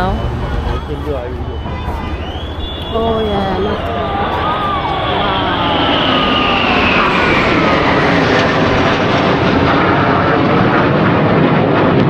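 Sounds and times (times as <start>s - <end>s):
jet aircraft roaring past: 0.0s - 12.0s.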